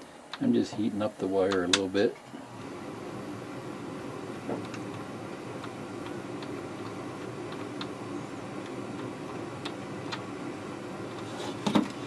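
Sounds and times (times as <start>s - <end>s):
steady low hum: 0.0s - 12.0s
soldering ticks and crackles: 0.2s - 2.7s, 3.4s - 11.3s.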